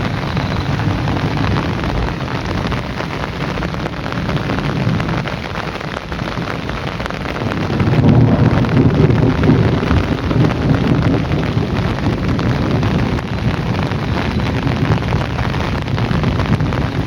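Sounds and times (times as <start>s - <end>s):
low rumble: 0.0s - 5.6s, 6.2s - 17.0s
heavy rain falling: 0.0s - 17.0s.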